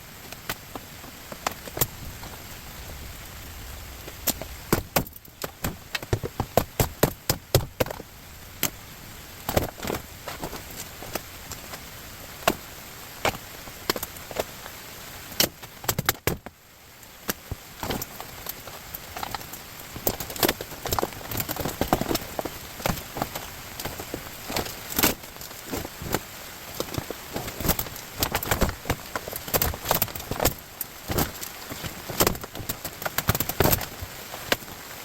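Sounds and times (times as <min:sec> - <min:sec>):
steady background noise: 0:00.0 - 0:35.0.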